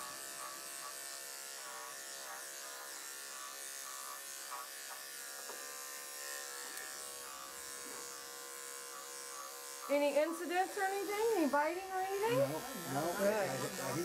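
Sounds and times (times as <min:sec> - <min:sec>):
electric clippers buzzing: 0:00.0 - 0:14.0.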